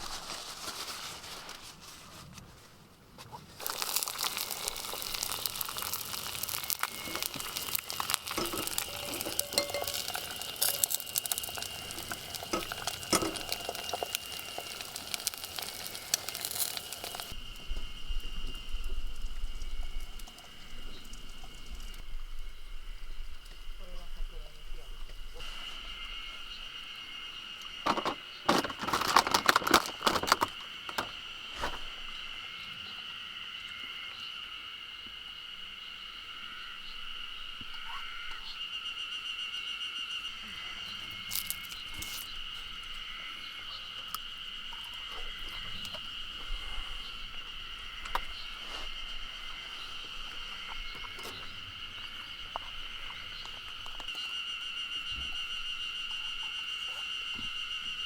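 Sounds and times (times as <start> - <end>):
insects trilling: 3.6 - 58.0.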